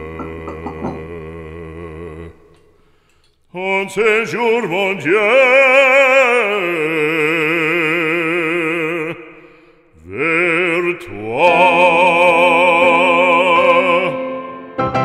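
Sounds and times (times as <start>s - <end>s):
operatic singing with vibrato: 0.0s - 2.8s, 3.5s - 15.0s.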